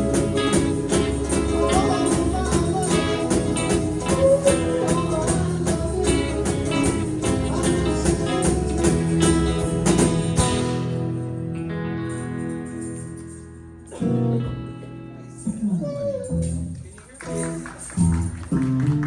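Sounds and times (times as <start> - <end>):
tambourine: 0.0 - 11.4, 12.0 - 14.1, 15.4 - 18.5
live band playing: 0.0 - 19.0.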